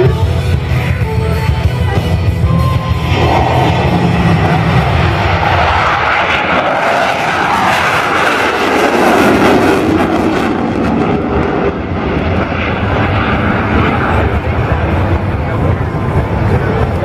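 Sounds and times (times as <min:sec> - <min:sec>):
airplane engine noise: 0:00.0 - 0:17.0.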